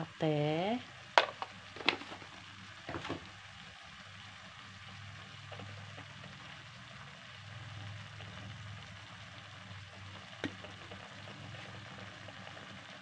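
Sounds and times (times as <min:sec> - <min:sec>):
beef sizzling in a pan: 0:00.0 - 0:13.0.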